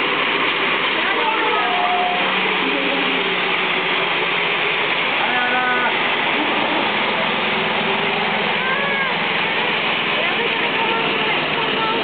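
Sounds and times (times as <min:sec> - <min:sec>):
miniature train rushing hiss: 0:00.0 - 0:12.0.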